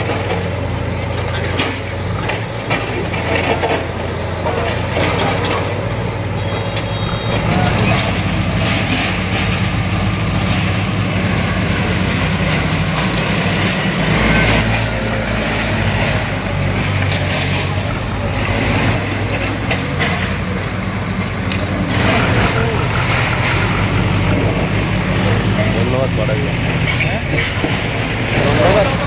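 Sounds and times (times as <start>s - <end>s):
demolition knocks and clatter: 0.0s - 29.0s
diesel engines running under load: 0.0s - 29.0s.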